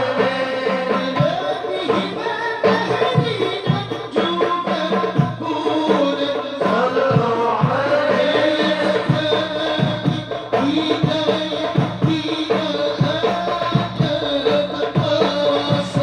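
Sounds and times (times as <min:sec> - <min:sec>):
group devotional singing: 0:00.0 - 0:16.0
hand drums: 0:00.0 - 0:16.0.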